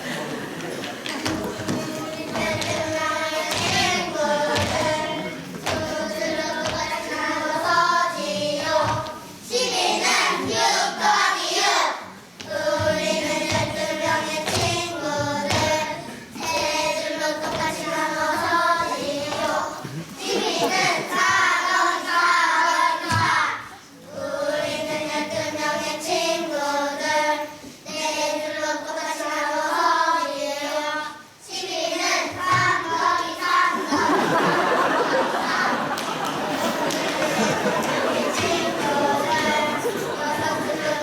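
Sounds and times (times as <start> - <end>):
children singing in unison: 0.0 - 41.0.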